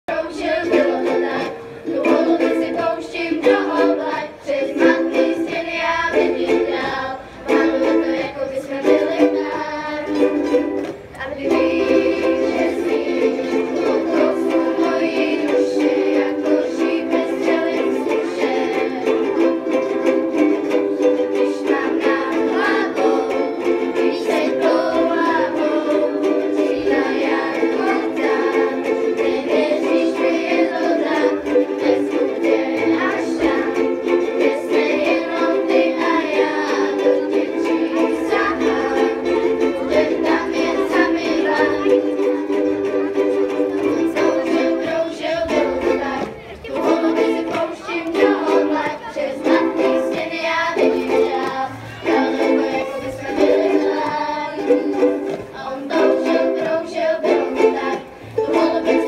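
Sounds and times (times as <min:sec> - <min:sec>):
ukuleles and guitars strumming: 0:00.0 - 0:59.0.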